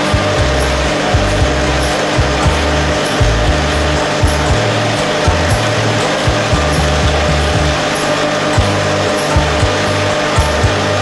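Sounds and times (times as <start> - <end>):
background music with bass line: 0.0 - 11.0.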